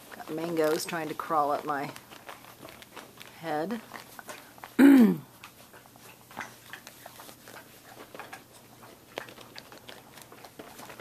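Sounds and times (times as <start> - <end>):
puppy paws tapping and scuffling: 0.0 - 11.0.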